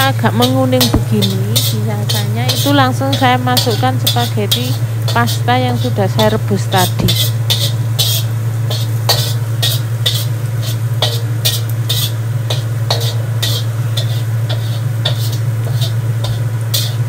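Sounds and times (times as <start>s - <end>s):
garlic frying in oil: 0.0s - 17.0s
spatula scraping a wok: 0.0s - 17.0s
steady low hum: 0.0s - 17.0s.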